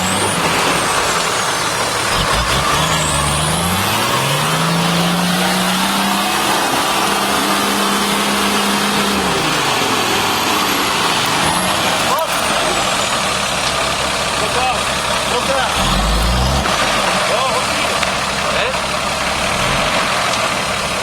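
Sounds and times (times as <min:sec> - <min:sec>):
engine revving under load: 0:00.0 - 0:21.0
tyres rushing through mud: 0:00.0 - 0:21.0.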